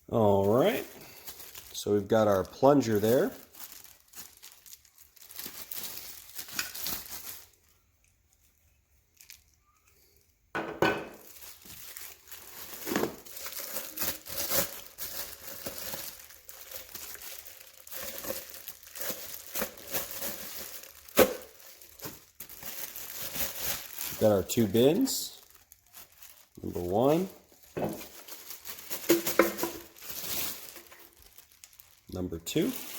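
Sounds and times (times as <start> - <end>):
packaging crinkling and rustling: 0.4 - 10.4, 11.1 - 32.9.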